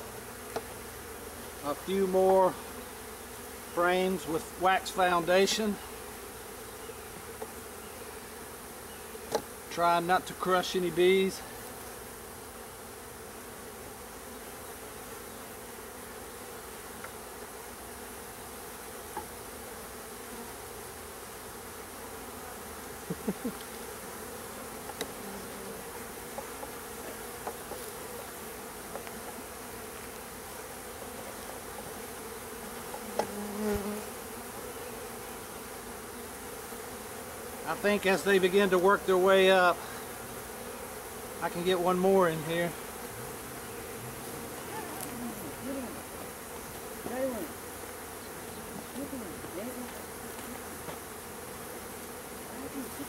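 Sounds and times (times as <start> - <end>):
honey bees buzzing: 0.0 - 53.0.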